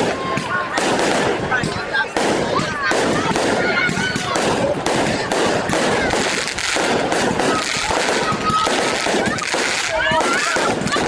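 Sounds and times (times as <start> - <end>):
crowd voices: 0.0 - 11.0
fireworks crackling and banging: 0.0 - 11.0.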